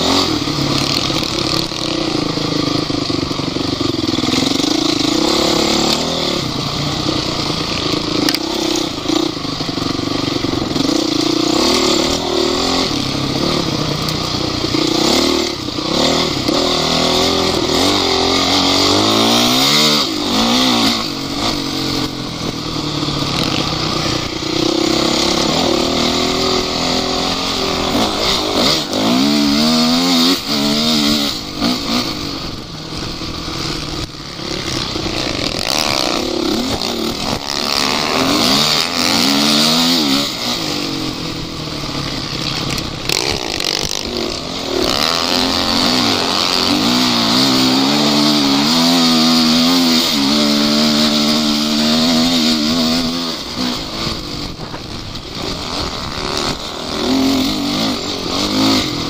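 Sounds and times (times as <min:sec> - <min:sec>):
off-road vehicle engine revving: 0:00.0 - 0:59.0
steady rushing noise: 0:00.0 - 0:59.0.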